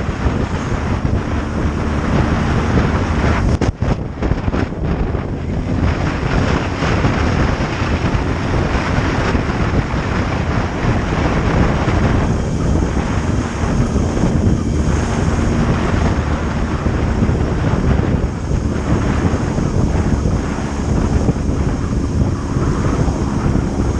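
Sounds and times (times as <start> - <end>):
motorcycle engine running: 0.0 - 23.9
wind noise on microphone: 0.0 - 23.9.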